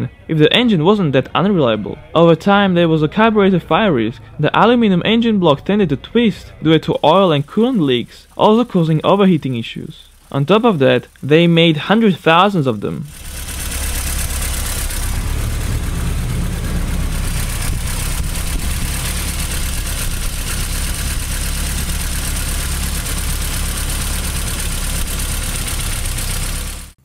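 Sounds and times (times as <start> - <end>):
car engine idling: 3.0 - 27.0.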